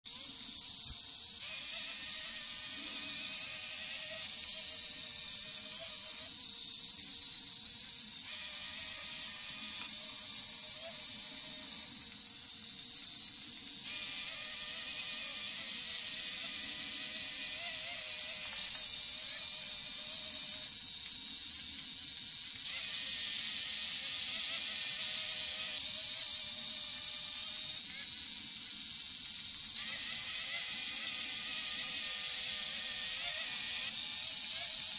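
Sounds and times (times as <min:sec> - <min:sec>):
small electric motors whining: 0:00.0 - 0:34.9.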